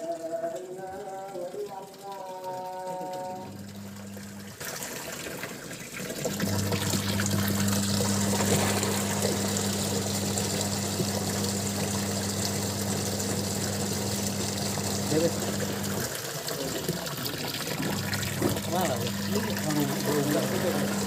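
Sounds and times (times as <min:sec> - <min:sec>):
washing machine motor humming: 0:00.0 - 0:21.0
water churning: 0:00.0 - 0:21.0.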